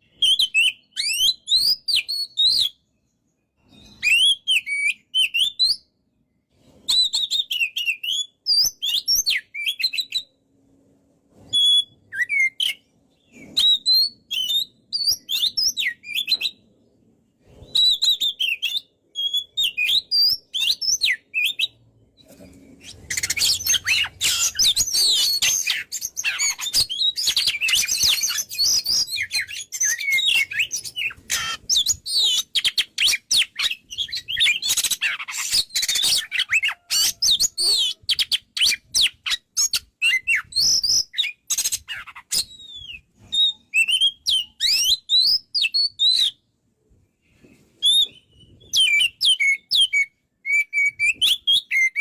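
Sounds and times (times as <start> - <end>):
bird singing whistles and twitters: 0.0 - 2.9, 3.6 - 5.9, 6.6 - 10.4, 11.4 - 16.6, 17.4 - 21.8, 22.7 - 46.4, 47.8 - 52.0.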